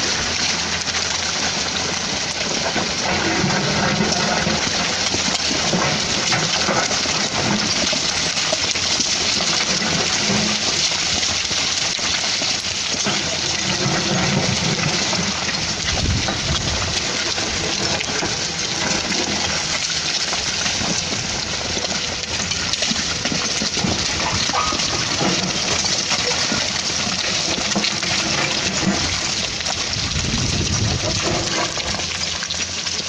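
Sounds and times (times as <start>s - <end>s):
rock and soil sliding down slope: 0.0s - 33.0s.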